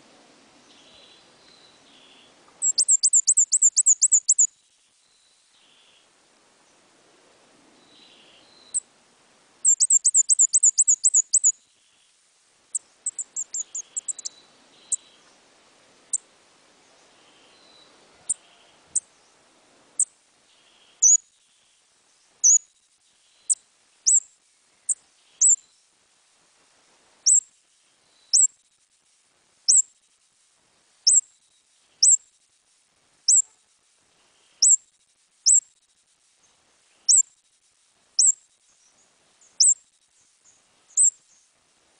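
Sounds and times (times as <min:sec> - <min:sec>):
songbird chirping: 0:00.0 - 0:06.9, 0:07.7 - 0:08.9, 0:09.6 - 0:15.5, 0:16.1 - 0:26.0, 0:27.2 - 0:28.7, 0:29.7 - 0:30.0, 0:31.0 - 0:32.4, 0:33.3 - 0:37.4, 0:38.2 - 0:41.6.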